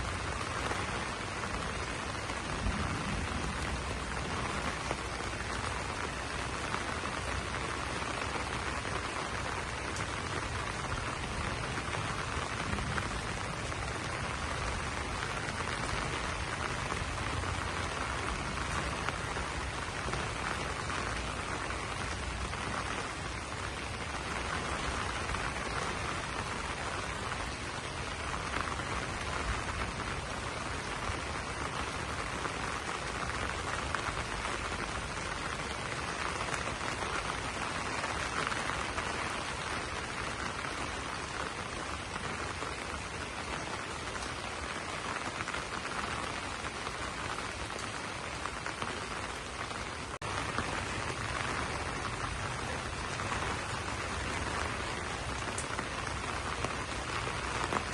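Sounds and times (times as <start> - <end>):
rain falling on leaves: 0.0 - 57.9.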